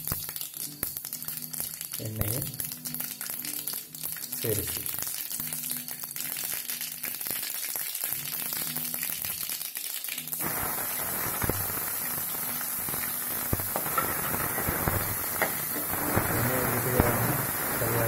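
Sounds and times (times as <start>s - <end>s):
onions sizzling frying: 0.0s - 18.0s
seeds crackling in hot oil: 0.0s - 18.0s.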